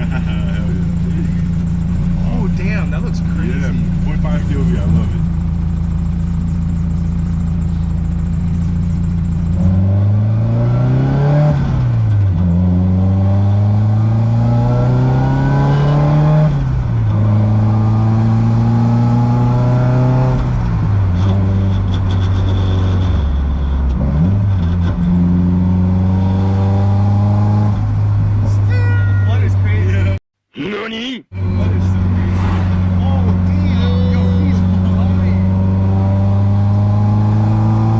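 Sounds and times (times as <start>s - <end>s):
car engine accelerating through gears: 0.0s - 28.5s, 31.4s - 37.9s.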